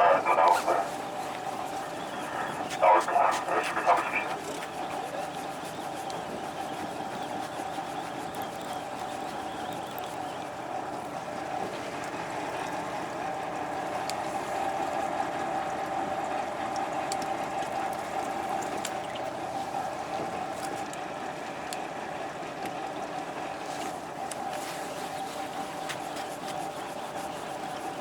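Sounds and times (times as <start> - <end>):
boat engine hum: 0.0 - 28.0.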